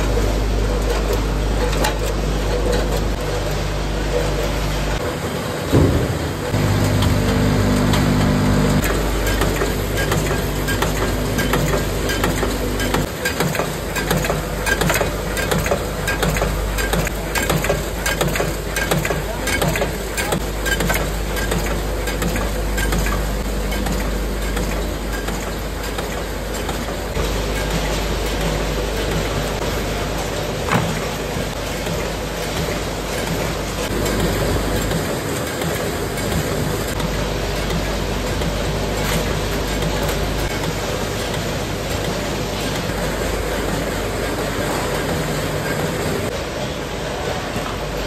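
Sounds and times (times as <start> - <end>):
machinery clicking and rattling: 5.7 - 46.4.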